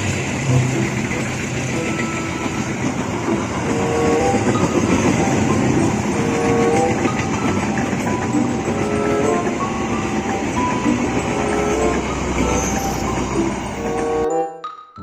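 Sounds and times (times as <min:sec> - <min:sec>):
train wheels clattering: 0:00.0 - 0:14.0.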